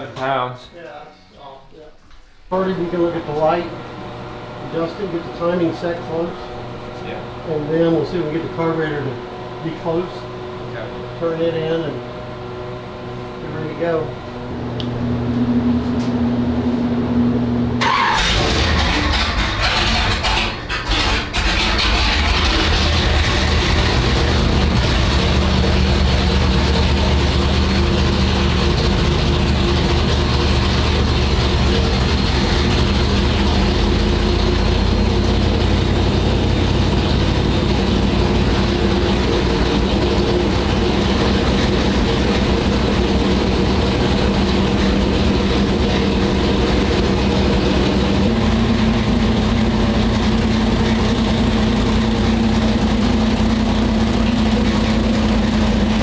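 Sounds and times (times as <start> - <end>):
car engine running: 2.6 - 56.0.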